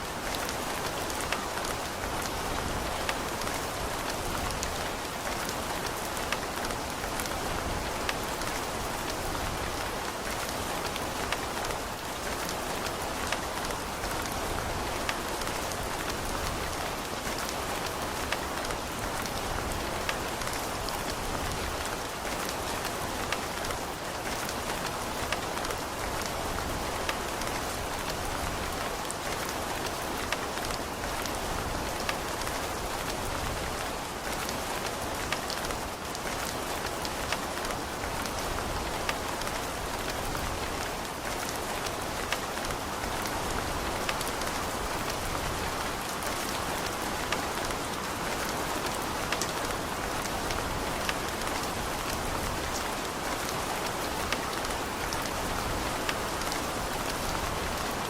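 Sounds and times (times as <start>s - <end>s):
raindrops ticking on a surface: 0.0s - 58.0s
steady rain hiss: 0.0s - 58.0s.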